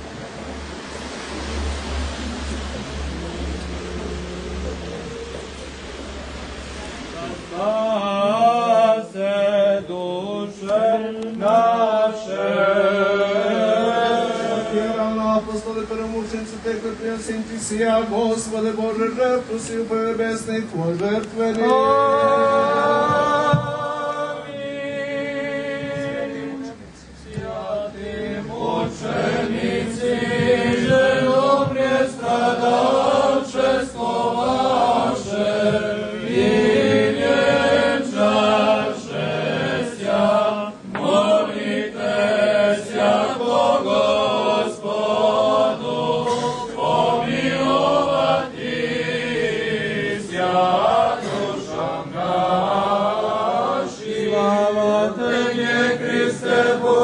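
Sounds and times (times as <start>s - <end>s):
group singing liturgical chant: 6.6s - 57.0s.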